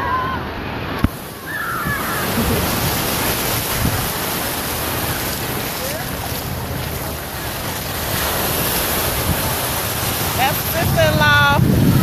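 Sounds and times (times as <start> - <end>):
surf breaking on shore: 0.0 - 12.0
wind buffeting microphone: 1.0 - 12.0.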